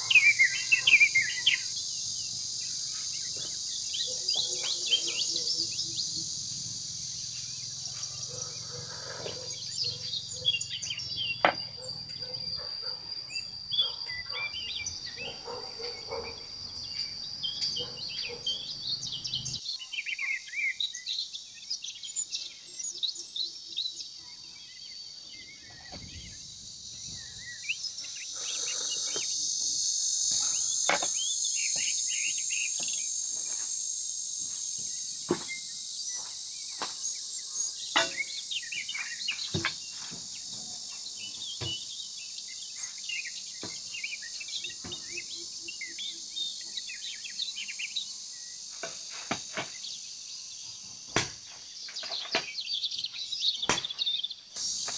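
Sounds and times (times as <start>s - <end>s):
high-pitched insect drone: 0.0s - 19.6s, 25.6s - 51.0s, 54.6s - 54.9s
birds chirping: 0.0s - 22.6s, 24.7s - 33.6s, 34.9s - 54.9s.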